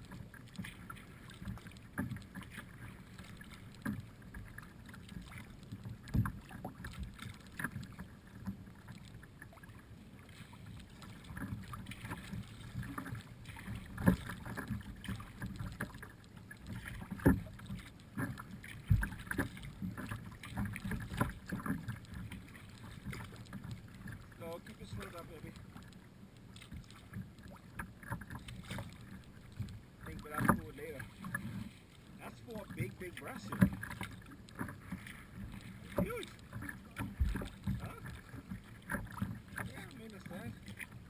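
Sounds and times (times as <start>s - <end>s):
paddle splashes and knocks: 0.0s - 41.0s.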